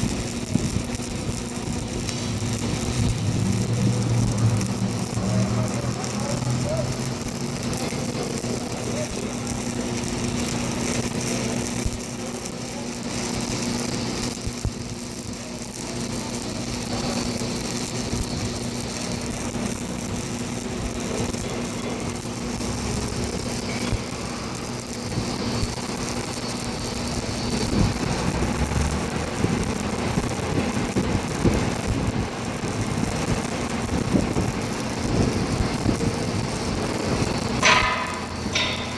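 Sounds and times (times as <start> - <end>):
arc welding hiss: 0.0 - 38.9
small welding pops: 0.0 - 38.9
welding machine hum: 0.0 - 38.9.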